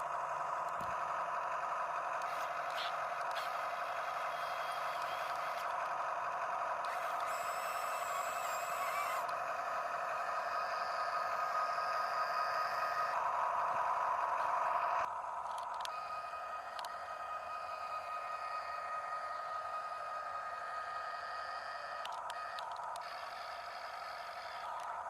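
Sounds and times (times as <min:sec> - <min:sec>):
toy excavator motors whining: 0:00.0 - 0:25.0.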